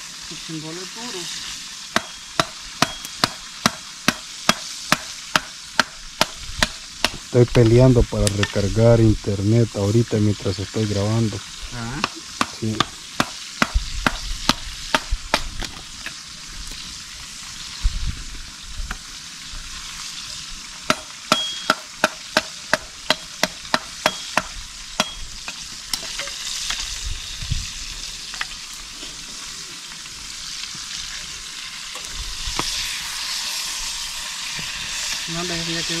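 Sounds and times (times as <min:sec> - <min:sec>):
food sizzling: 0:00.0 - 0:36.0.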